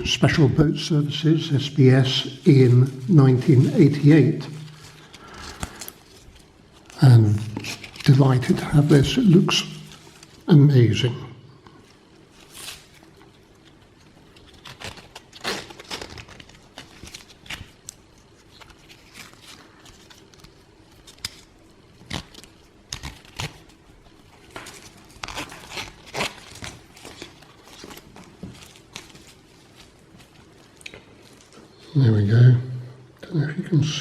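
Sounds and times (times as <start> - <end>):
packaging crinkling and rustling: 2.2 - 10.5, 11.7 - 31.8.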